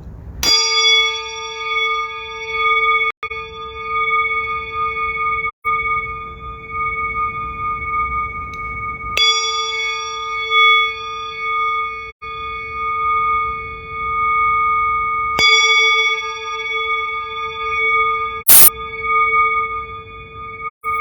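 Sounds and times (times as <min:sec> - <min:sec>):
singing bowl ringing: 0:00.4 - 0:21.0.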